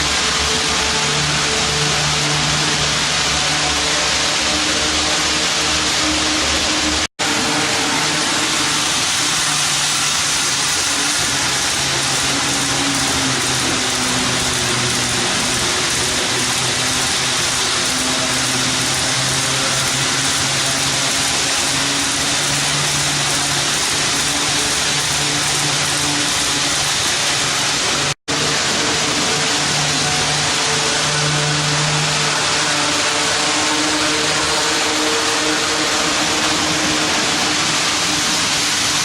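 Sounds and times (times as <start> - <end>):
model train running: 0.0 - 39.0.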